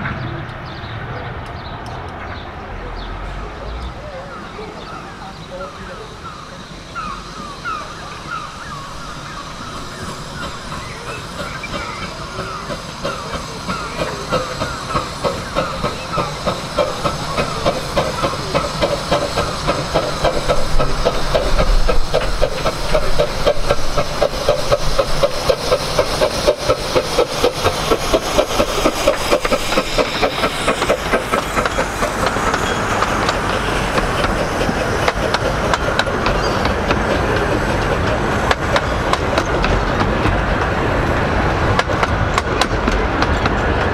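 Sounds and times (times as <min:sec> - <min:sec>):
steam locomotive exhaust beats: 0:00.0 - 0:43.9
wheels clattering on rail joints: 0:00.0 - 0:43.9.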